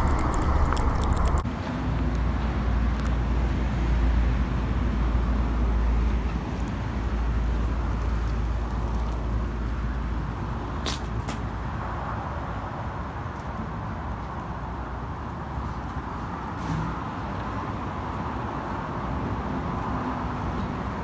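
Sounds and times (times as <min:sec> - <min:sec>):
street noise rumble: 0:00.0 - 0:21.0.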